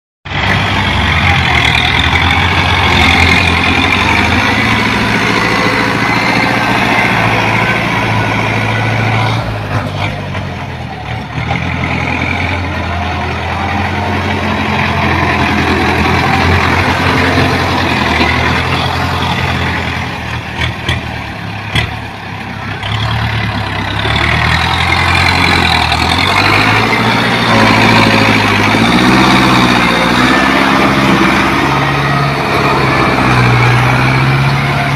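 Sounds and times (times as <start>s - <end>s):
tractor diesel engine under load: 0.3s - 34.9s.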